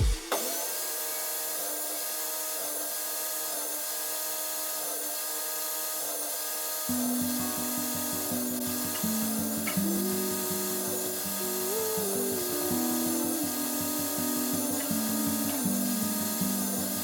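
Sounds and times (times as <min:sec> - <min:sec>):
power tool on wood: 0:00.0 - 0:17.0.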